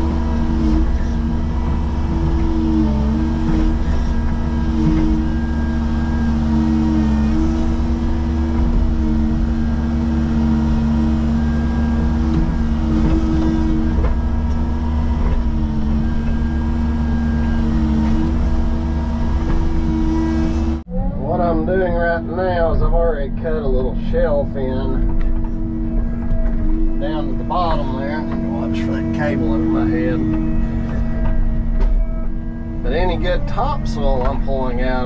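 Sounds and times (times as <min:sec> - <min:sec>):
excavator diesel engine under load: 0:00.0 - 0:35.0
hydraulics working: 0:00.0 - 0:35.0.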